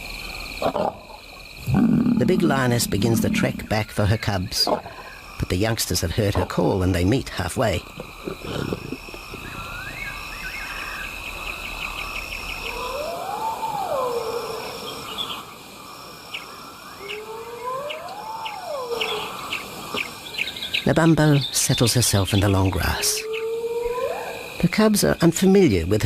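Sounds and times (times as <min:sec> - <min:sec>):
insects trilling and chirping: 0:00.0 - 0:26.0.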